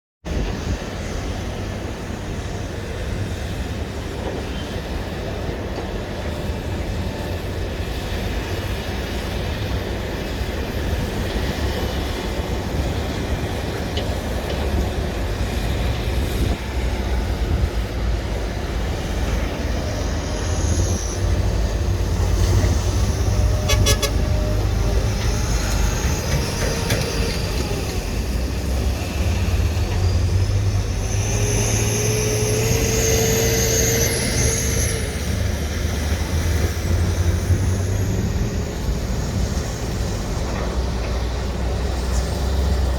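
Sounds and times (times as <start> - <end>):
excavator diesel engine running: 0.4 - 42.9
hydraulics whining: 3.8 - 42.9.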